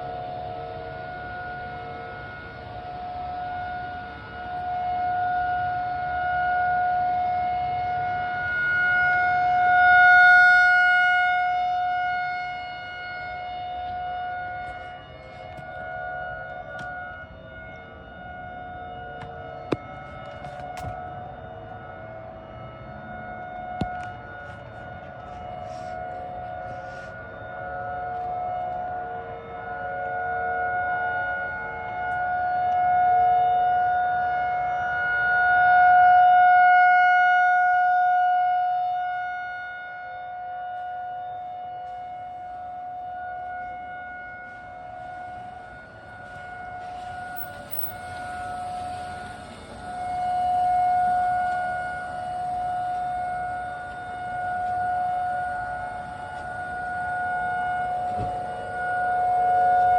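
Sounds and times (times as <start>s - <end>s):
outdoor warning sirens wailing: 0.0s - 59.9s.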